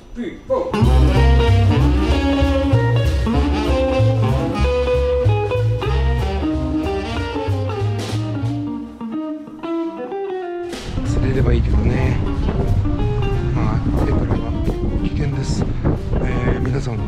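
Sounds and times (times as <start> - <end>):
blues guitar music: 0.7 - 17.0.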